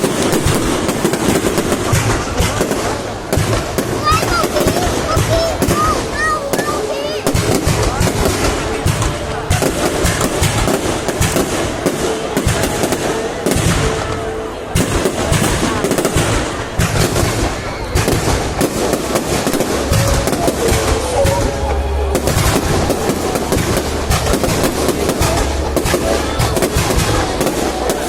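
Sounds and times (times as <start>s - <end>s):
fireworks bangs and crackle: 0.0s - 28.0s.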